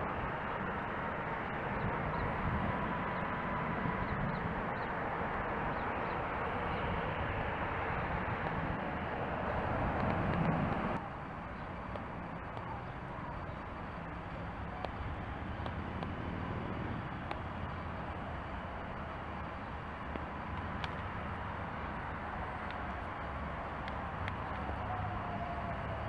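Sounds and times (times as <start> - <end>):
station background noise: 0.0 - 26.0.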